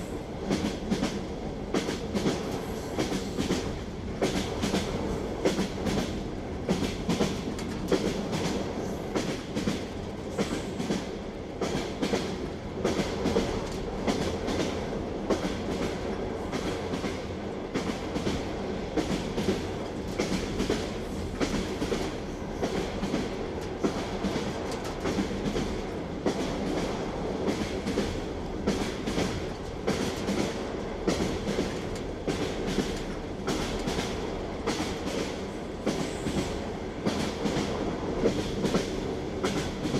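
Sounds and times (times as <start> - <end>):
train rolling rumble: 0.0 - 39.9
train wheels clicking over rail joints: 0.4 - 39.9.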